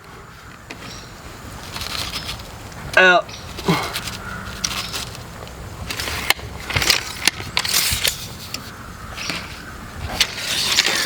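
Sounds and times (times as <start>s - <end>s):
scraping of pipe sleeve: 1.6s - 11.0s.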